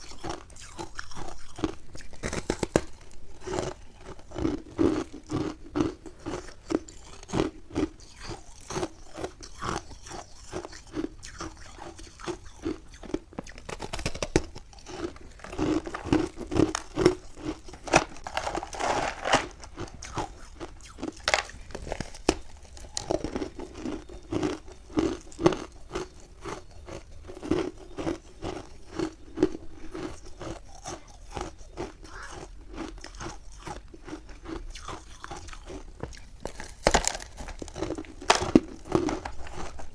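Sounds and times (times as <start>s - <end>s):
chewing ice fragments: 0.0s - 39.9s
ice crunching between teeth: 0.0s - 39.9s.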